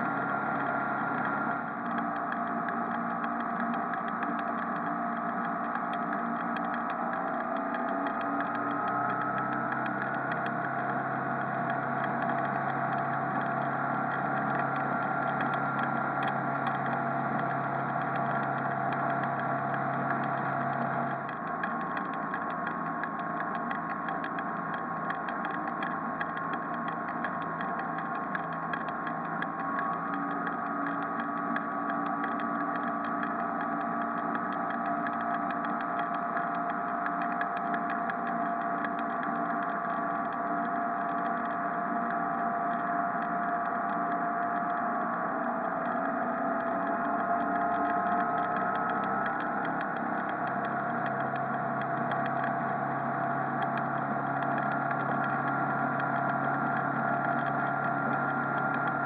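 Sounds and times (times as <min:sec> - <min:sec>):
boat engine running: 0:00.0 - 0:44.8, 0:45.5 - 0:59.0.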